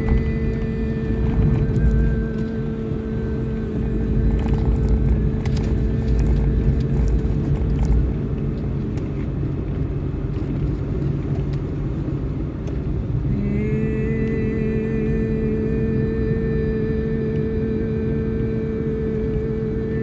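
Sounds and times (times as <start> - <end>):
deep rumble: 0.0 - 20.0
low droning tones: 0.0 - 20.0.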